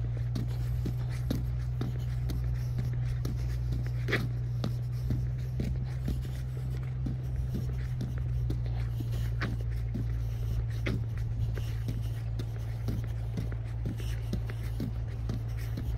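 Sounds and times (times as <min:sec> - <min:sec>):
footsteps scuffing on stone: 0:00.0 - 0:15.9
steady low hum: 0:00.0 - 0:15.9.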